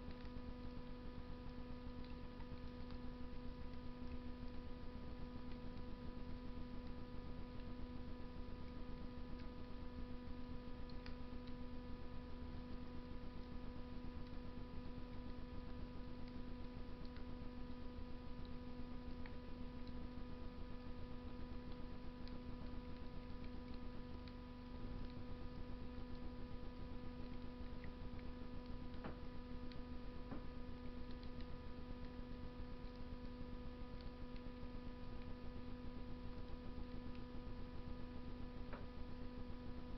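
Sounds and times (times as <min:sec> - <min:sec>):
steady hum: 0:00.0 - 0:39.9
wood fire crackles and pops: 0:00.1 - 0:37.7.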